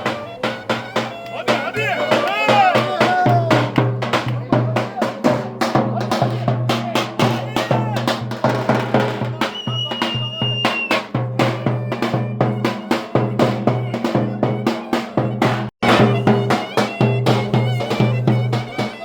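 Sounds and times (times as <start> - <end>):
driving drum beat: 0.0 - 19.0
folk dance music: 0.0 - 19.0.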